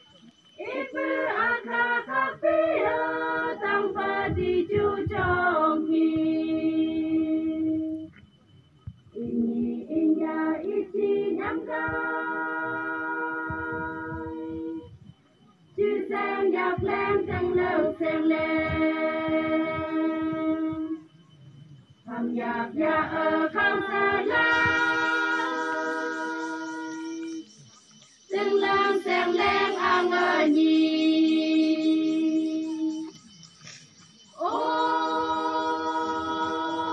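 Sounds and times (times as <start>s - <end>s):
women singing a folk chant: 0.6s - 8.2s, 9.2s - 15.0s, 15.8s - 21.2s, 22.0s - 27.5s, 28.3s - 33.2s, 34.3s - 36.9s.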